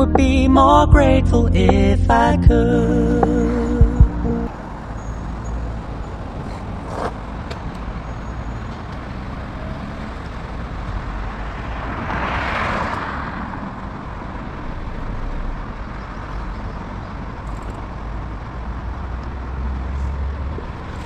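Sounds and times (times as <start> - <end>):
road and vehicle rumble: 0.0 - 21.0.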